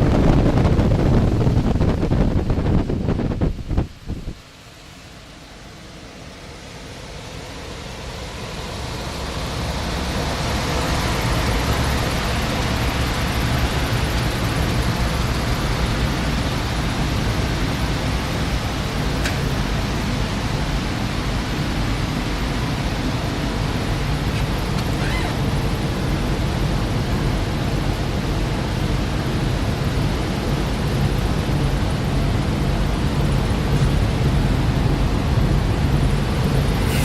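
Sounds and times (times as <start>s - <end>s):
air rushing from blower: 0.0s - 37.0s.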